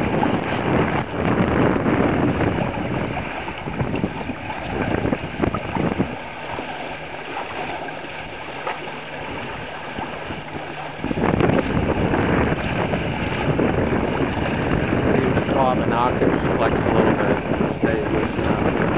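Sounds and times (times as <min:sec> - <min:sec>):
water rushing along hulls: 0:00.0 - 0:18.9
wind buffeting microphone: 0:00.0 - 0:18.9.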